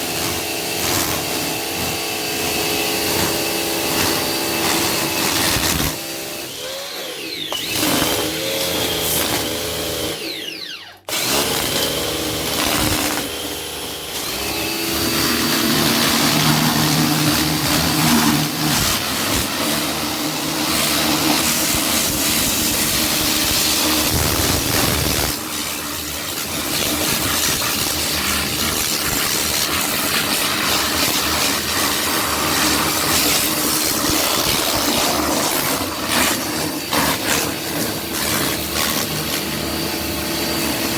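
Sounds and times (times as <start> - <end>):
pressure washer motor whine: 0.0 - 40.9.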